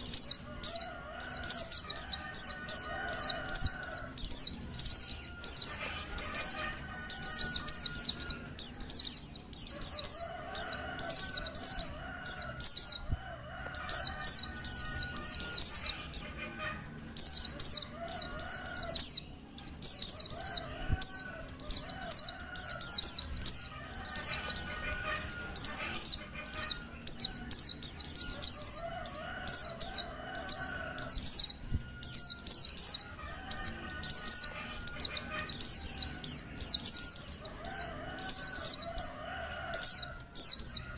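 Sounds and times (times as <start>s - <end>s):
bird chattering high-pitched: 0.0s - 13.1s, 13.8s - 40.9s
faint lower wavering bird calls: 0.0s - 40.9s.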